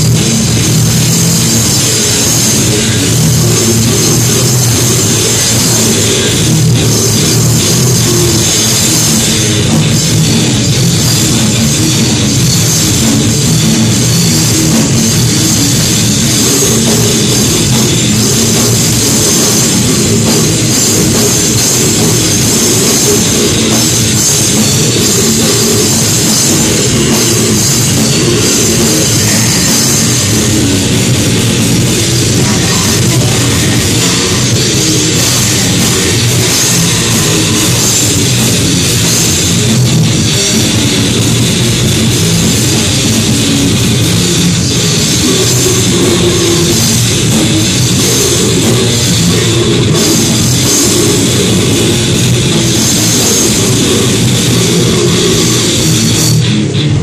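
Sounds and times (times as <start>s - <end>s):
heavy metal band playing live: 0.0s - 57.0s.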